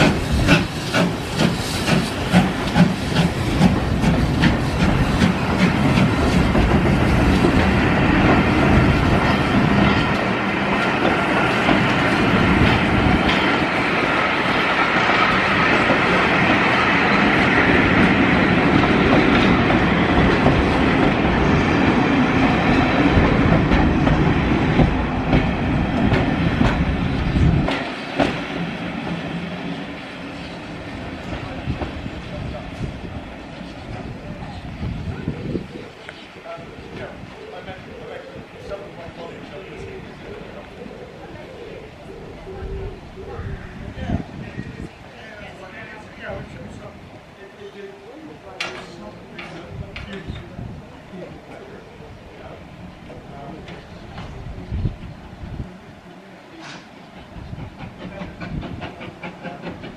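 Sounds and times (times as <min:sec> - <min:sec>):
train wheels clicking and rumbling: 0:00.0 - 0:37.8, 0:48.4 - 0:55.6, 0:56.6 - 0:59.9.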